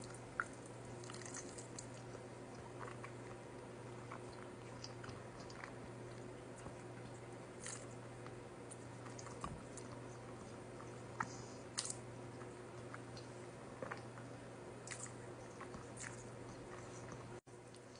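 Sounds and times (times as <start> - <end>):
person chewing noodles: 0.0 - 17.9.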